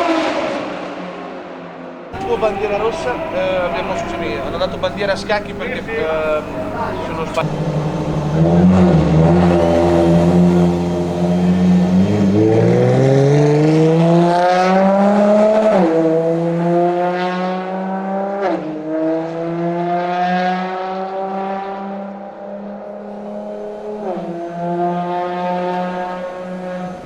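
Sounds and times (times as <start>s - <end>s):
car engine accelerating hard: 2.2s - 27.0s.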